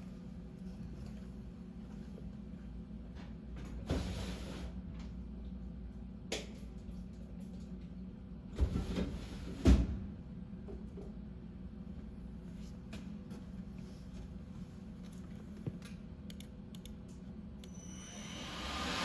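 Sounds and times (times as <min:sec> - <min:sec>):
machine low hum: 0:00.0 - 0:19.0.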